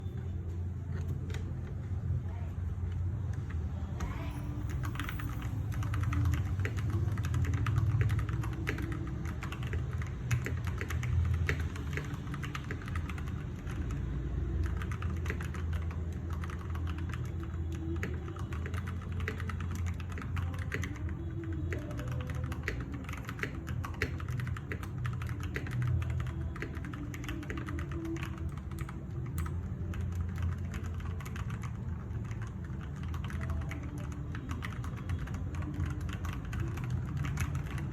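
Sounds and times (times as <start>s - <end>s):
mechanical keyboard typing: 4.2s - 37.9s.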